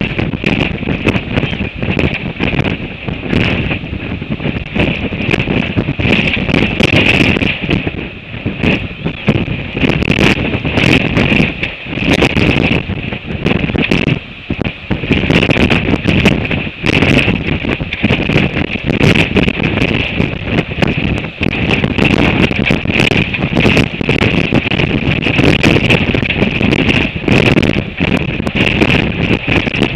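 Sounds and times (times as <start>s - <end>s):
sharp crackles: 0.0s - 29.9s
wind buffeting microphone: 0.0s - 29.9s.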